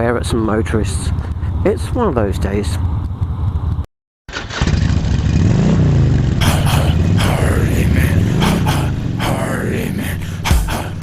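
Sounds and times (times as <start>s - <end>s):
motorcycle engine: 0.5s - 11.0s.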